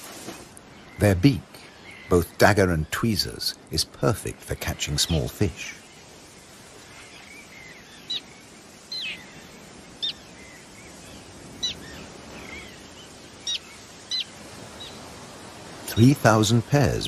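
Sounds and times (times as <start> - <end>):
background rush: 0.0 - 17.0
terns calling: 0.0 - 17.0.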